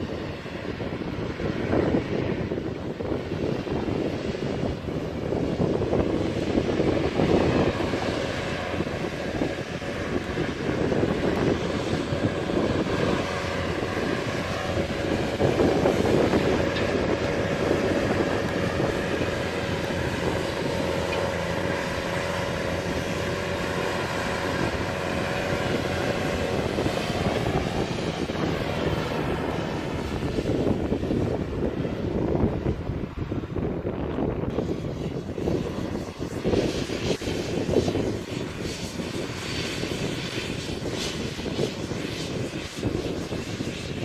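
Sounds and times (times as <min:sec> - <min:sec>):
tractor diesel engine under load: 0:00.0 - 0:43.2
steady whine: 0:00.0 - 0:44.0.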